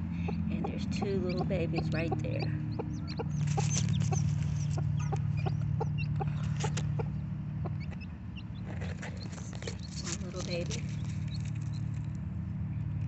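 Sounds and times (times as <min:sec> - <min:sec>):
chicks peeping: 0:00.0 - 0:12.1.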